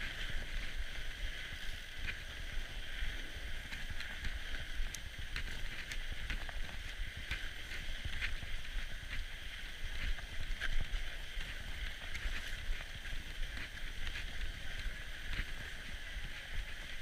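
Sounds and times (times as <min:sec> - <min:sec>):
bike tyres hissing on snow: 0:00.0 - 0:17.0
wind rumble on microphone: 0:00.0 - 0:17.0.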